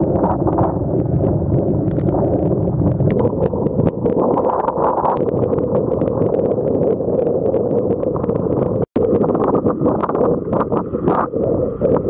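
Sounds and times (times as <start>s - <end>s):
choppy water splashing: 0.0s - 12.0s
wind buffeting microphone: 0.0s - 12.0s.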